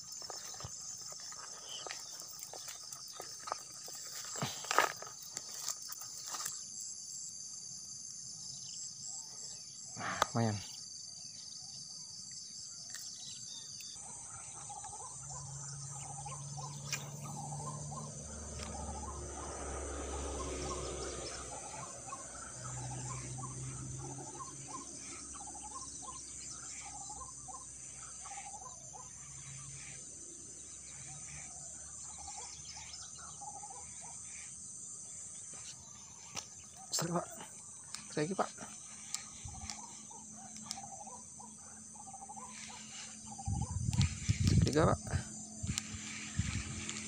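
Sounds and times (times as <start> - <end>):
short chirping calls: 0.0 - 6.7, 11.4 - 47.0
insects trilling: 0.0 - 47.0.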